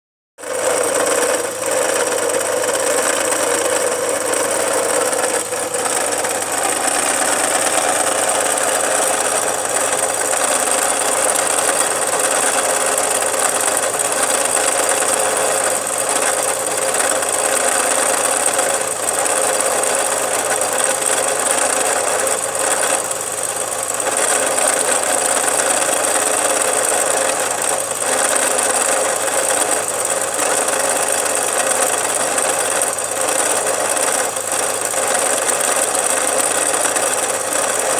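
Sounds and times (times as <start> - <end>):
car engine running: 0.4 - 37.9
steady engine noise: 0.4 - 37.9.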